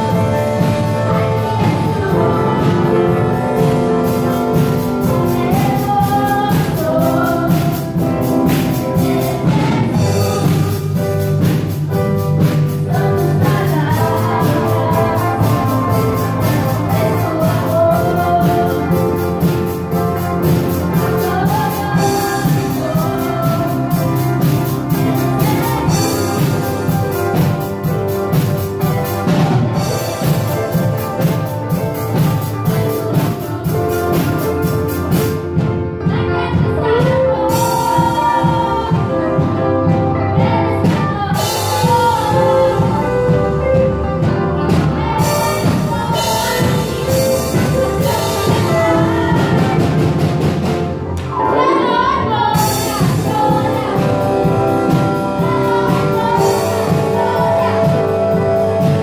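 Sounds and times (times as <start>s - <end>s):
drum kit: 0.0s - 59.0s
electric and acoustic guitars: 0.0s - 59.0s
keyboard: 0.0s - 59.0s
people singing: 0.0s - 59.0s.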